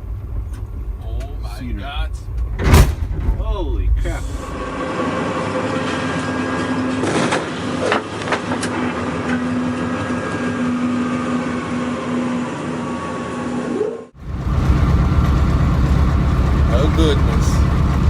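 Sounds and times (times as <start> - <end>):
locomotive running noise in cab: 0.0 - 18.0
low hum: 0.0 - 18.0.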